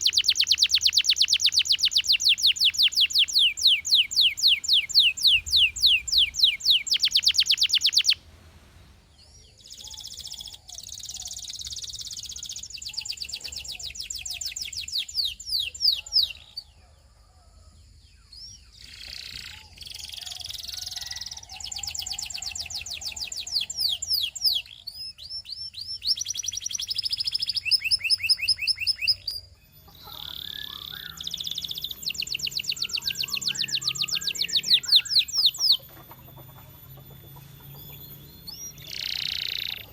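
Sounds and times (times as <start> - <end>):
canary singing trills: 0.0 - 8.3, 9.0 - 17.0, 18.1 - 39.9.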